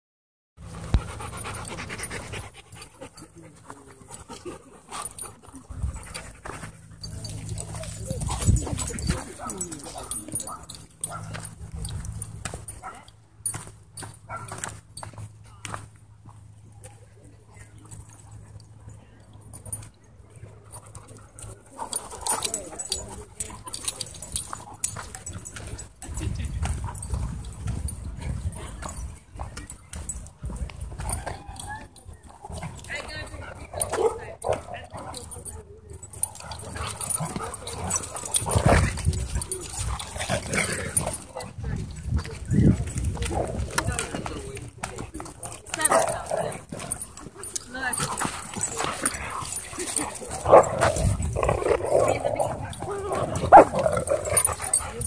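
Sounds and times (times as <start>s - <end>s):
dogs panting: 0.6s - 15.4s, 17.8s - 55.0s.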